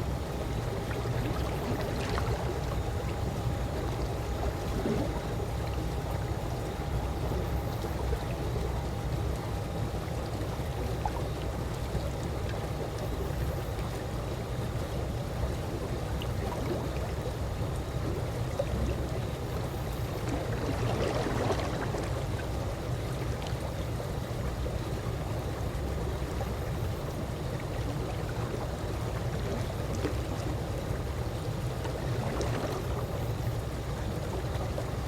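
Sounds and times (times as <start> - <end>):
pool water lapping: 0.0 - 35.0.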